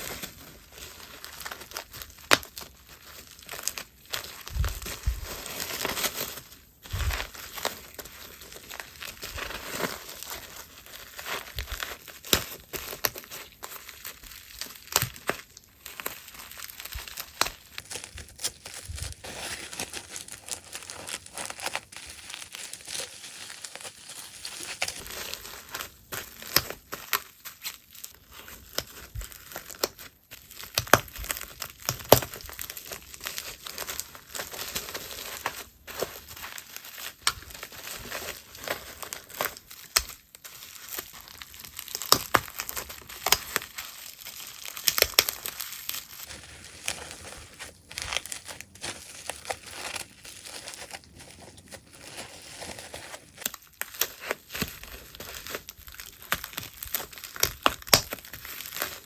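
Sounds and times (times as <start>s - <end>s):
packaging crinkling: 0.0s - 59.0s.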